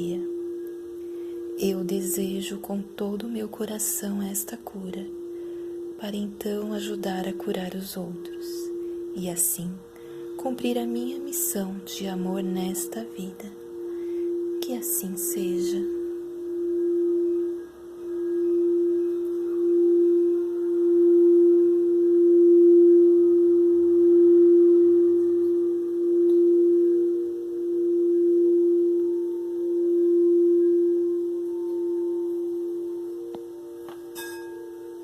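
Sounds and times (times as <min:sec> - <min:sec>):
singing bowl ringing: 0:00.0 - 0:35.0.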